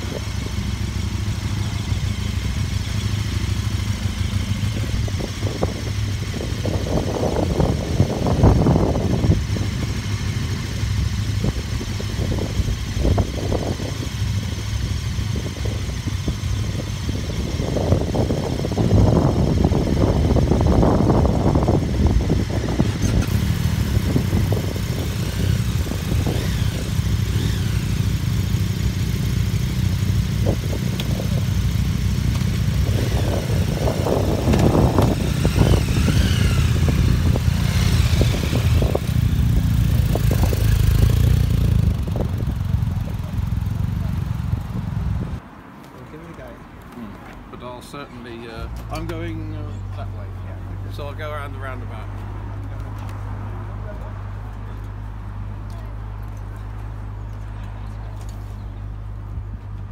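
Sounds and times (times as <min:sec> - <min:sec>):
motorcycle engines idling: 0:00.0 - 0:45.4, 0:46.0 - 0:59.9.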